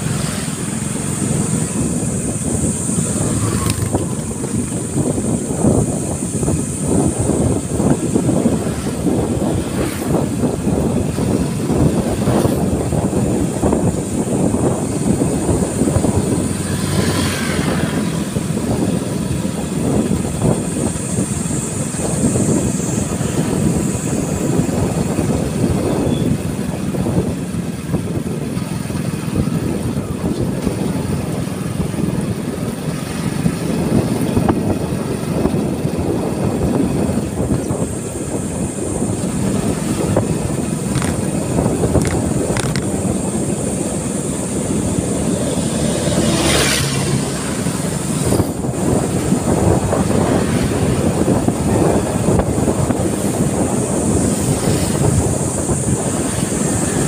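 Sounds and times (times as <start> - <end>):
motorcycle engine: 0.0 - 57.0
road noise: 0.0 - 57.0
wind buffeting microphone: 0.0 - 57.0.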